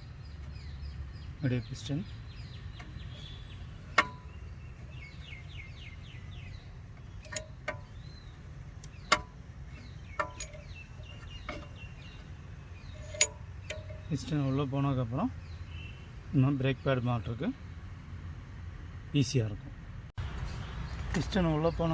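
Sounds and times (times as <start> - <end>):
small birds chirping: 0.0 - 19.6, 20.2 - 21.9.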